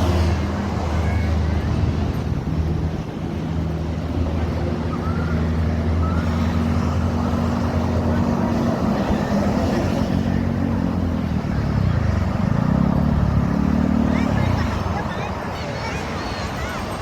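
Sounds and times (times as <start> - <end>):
large vehicle engine hum: 0.0 - 17.0
traffic going by: 0.0 - 17.0.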